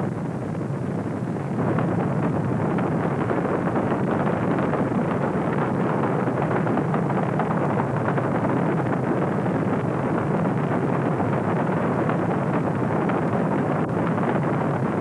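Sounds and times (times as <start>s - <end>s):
rocket engine roar: 0.0s - 15.0s.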